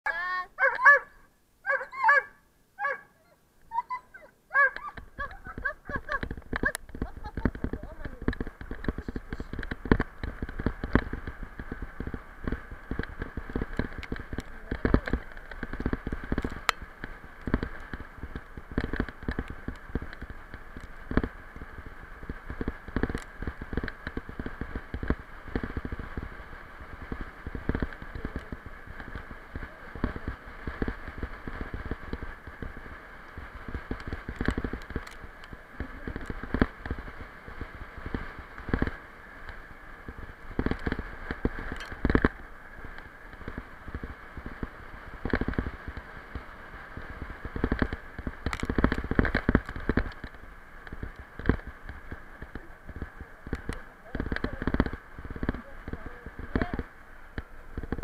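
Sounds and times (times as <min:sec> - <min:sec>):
bicycle tyres on dirt trail: 0:00.1 - 0:58.0
bike rattling and knocking: 0:04.6 - 0:32.8, 0:33.6 - 0:58.0.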